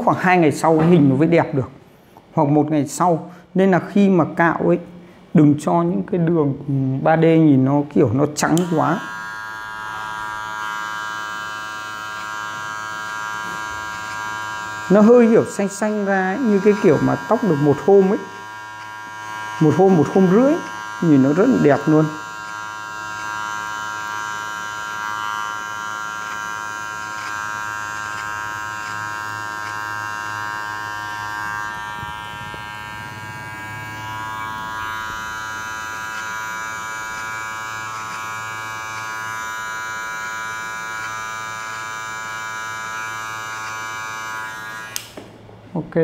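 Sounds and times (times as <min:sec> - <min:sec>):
electric hair clipper buzzing: 0:00.0 - 0:01.4, 0:08.2 - 0:45.4.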